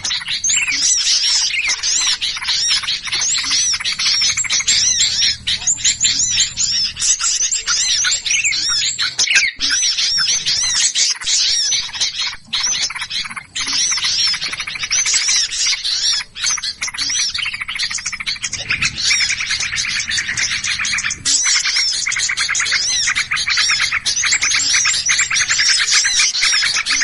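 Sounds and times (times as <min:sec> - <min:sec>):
flock of small birds chattering: 0:00.0 - 0:27.0.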